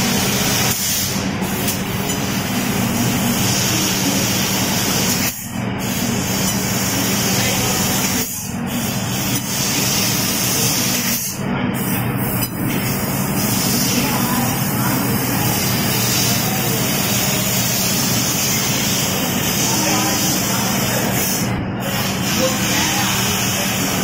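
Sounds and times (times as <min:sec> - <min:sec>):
laser cutter hissing: 0:00.0 - 0:24.0.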